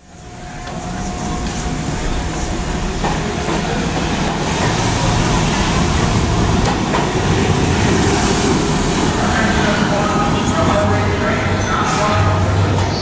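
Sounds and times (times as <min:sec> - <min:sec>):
subway train pulling out: 0:00.0 - 0:13.0.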